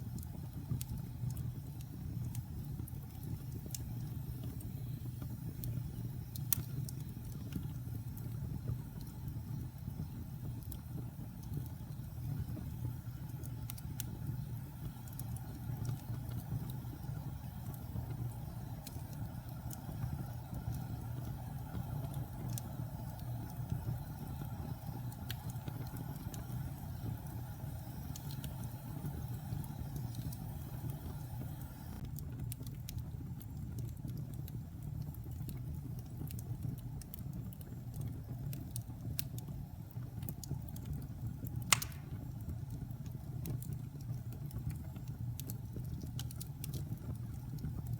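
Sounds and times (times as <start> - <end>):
fire flames rumbling: 0.0 - 47.9
wood fire crackling: 0.0 - 47.9.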